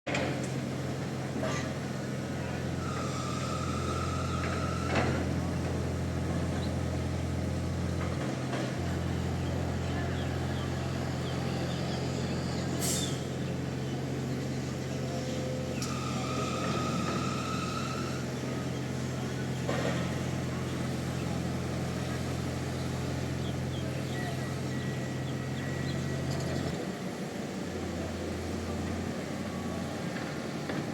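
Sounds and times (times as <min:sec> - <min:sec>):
construction machinery engine hum: 0:00.1 - 0:30.9.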